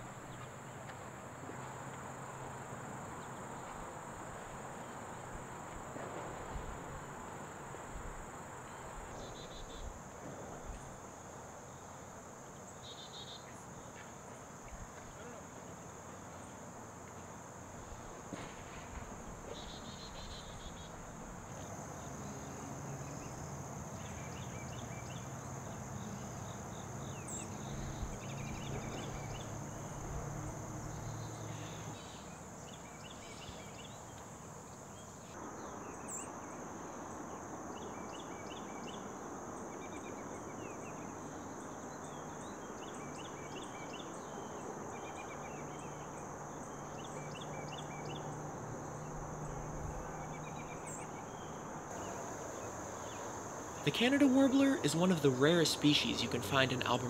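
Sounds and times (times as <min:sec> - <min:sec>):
insect high-pitched drone: 0:02.0 - 0:13.9, 0:18.8 - 0:57.0.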